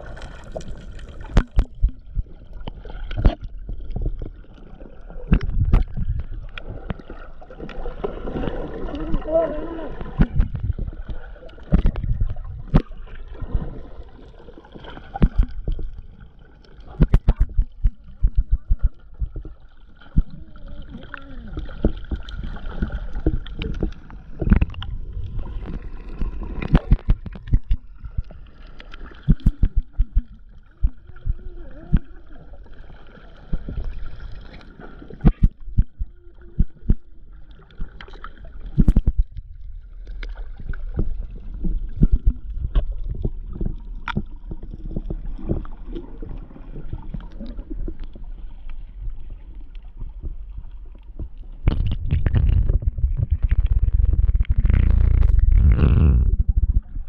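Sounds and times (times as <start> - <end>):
bubbling: 0.0 - 57.0
underwater rumble of moving water: 0.0 - 57.0.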